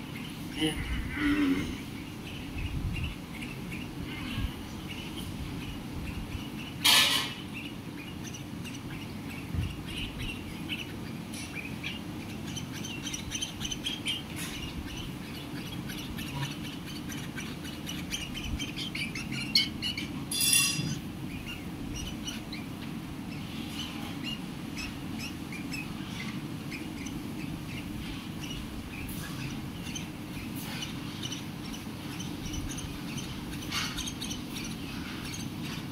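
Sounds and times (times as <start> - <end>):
low background noise: 0.0 - 35.9
parrots chirping: 0.0 - 35.9.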